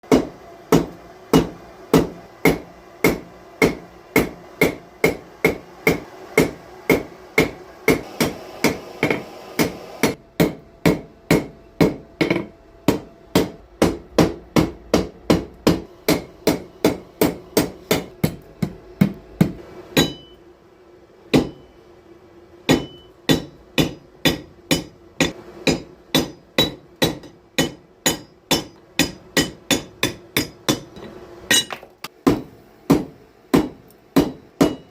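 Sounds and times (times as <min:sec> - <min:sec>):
hammer striking metal on anvil: 0:00.1 - 0:20.4, 0:21.3 - 0:21.8, 0:22.7 - 0:34.9.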